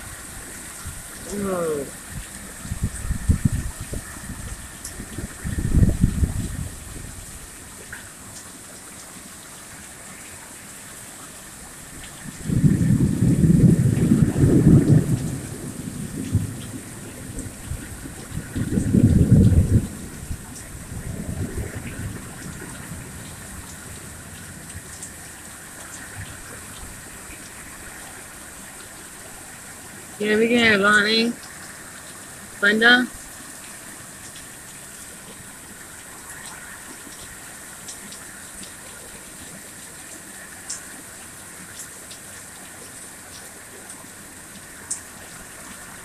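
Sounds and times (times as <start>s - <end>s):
steady rain: 0.0s - 46.0s
water running and gushing: 0.0s - 46.0s.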